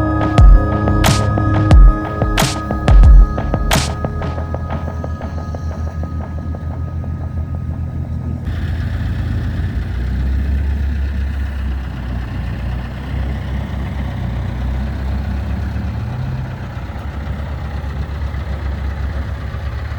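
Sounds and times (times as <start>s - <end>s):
vehicle engine idling low: 0.0s - 19.9s.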